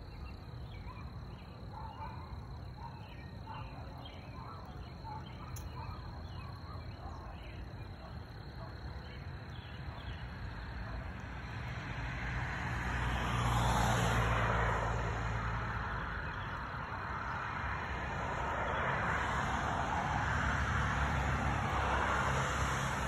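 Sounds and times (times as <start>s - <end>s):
cars passing: 0.0s - 23.0s
low traffic rumble: 0.0s - 23.0s.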